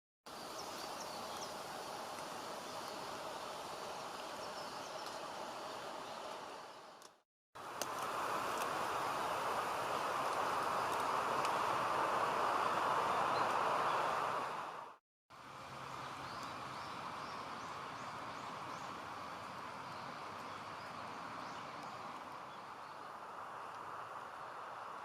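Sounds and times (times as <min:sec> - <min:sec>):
rushing outdoor background noise: 0:00.3 - 0:25.0.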